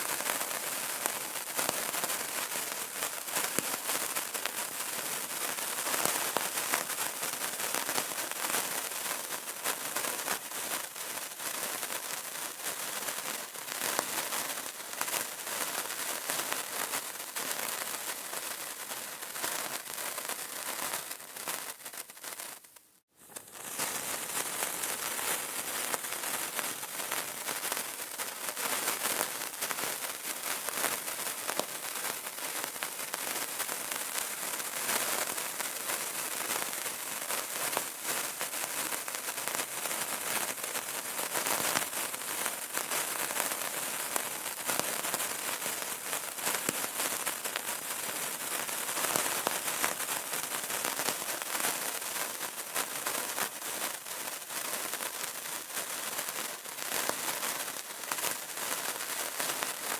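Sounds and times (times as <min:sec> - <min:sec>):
burning candle crackling: 0:00.0 - 0:59.9.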